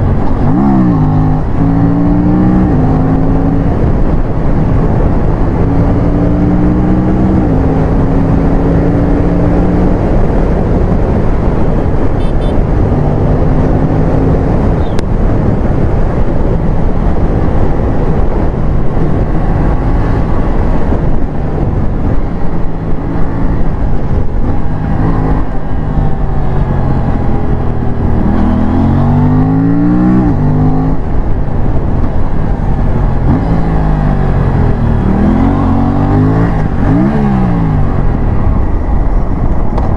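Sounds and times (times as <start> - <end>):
motorcycle engine running: 0.0 - 39.9
strong wind noise: 0.0 - 39.9.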